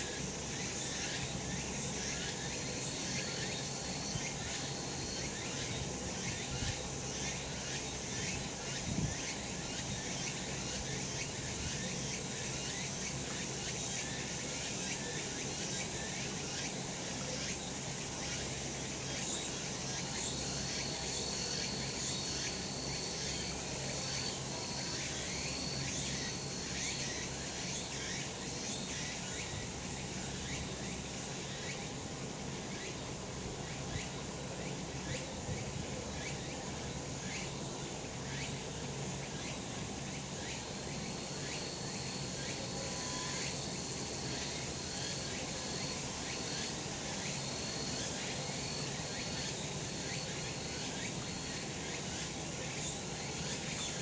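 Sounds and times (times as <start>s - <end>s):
cicadas chorus: 0.0s - 54.0s.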